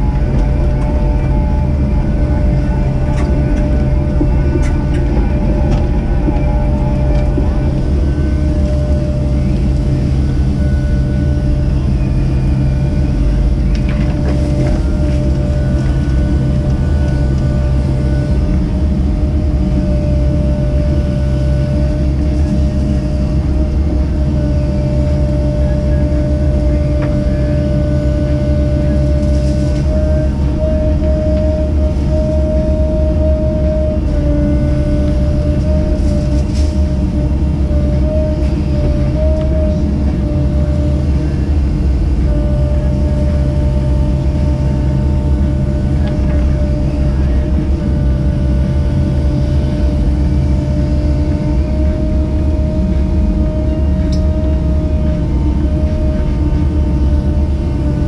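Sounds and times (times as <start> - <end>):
diesel engine running: 0.0 - 58.0
high hydraulic whine: 0.0 - 58.0.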